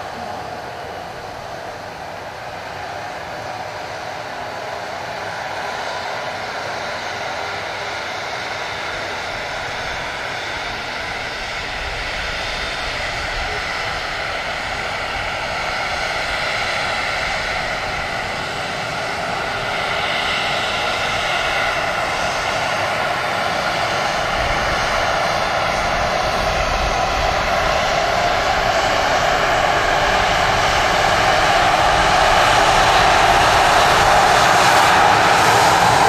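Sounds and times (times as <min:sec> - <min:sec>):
jet engine whine and rush: 0:00.0 - 0:36.0.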